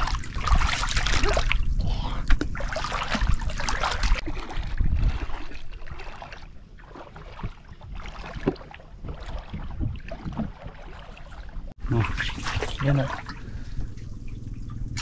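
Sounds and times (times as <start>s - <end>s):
shallow seawater splashing: 0.0s - 13.8s.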